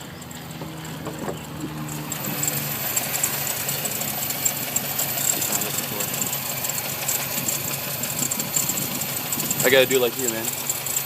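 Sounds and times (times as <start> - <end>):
car engine idling: 0.0 - 11.0
fast light engine ticking: 0.0 - 11.0.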